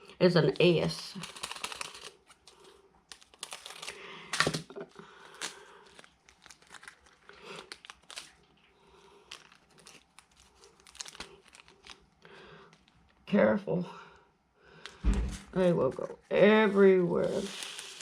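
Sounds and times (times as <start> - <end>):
plastic bags crinkling: 0.5 - 13.3, 15.6 - 18.0.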